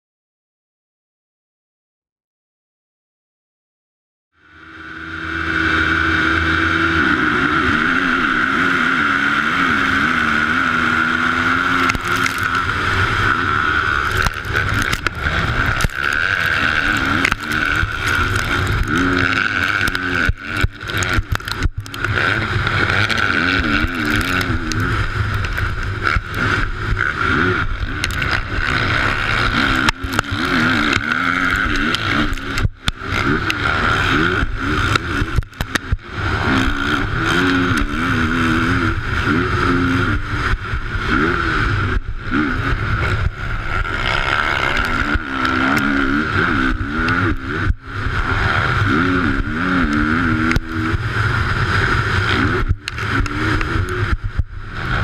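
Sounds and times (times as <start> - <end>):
motocross engine revving: 4.6 - 55.0.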